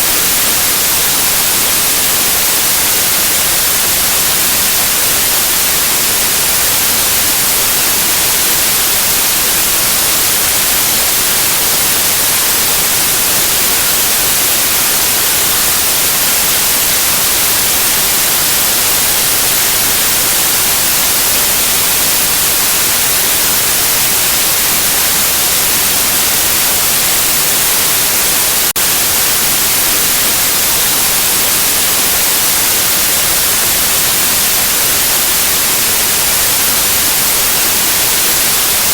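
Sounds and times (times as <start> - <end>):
loud white noise hiss: 0.0 - 38.9.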